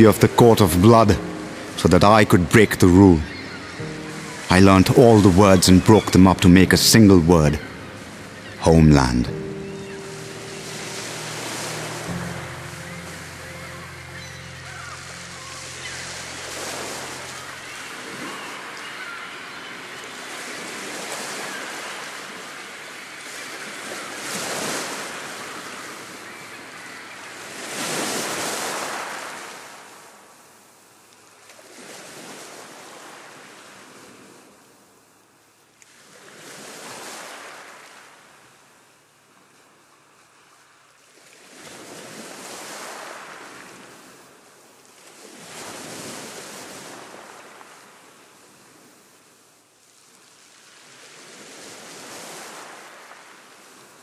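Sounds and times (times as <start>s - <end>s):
sea waves washing in: 0.0s - 35.2s, 35.9s - 38.7s, 40.2s - 54.0s.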